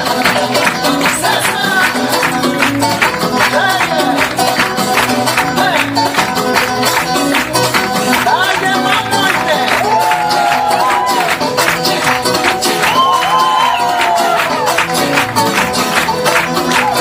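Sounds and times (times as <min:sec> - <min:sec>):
bass: 0:00.0 - 0:17.0
percussion beat: 0:00.0 - 0:17.0
plucked guitar: 0:00.0 - 0:17.0.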